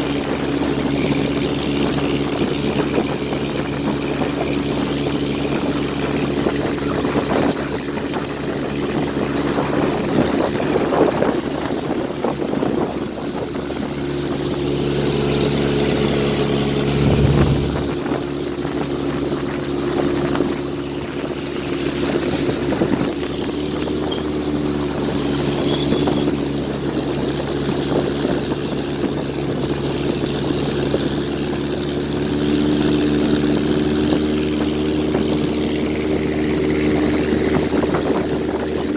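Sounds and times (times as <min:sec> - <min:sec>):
boat engine drone: 0:00.0 - 0:38.9
rushing water: 0:00.0 - 0:38.9
wind noise: 0:00.0 - 0:38.9.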